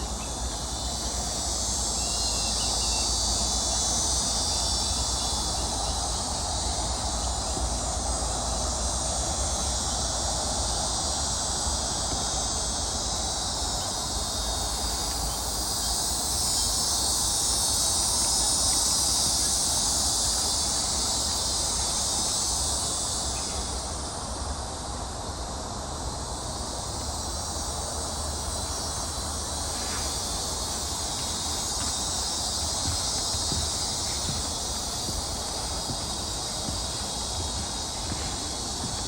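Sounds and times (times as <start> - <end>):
insect chorus hiss: 0.0 - 39.0.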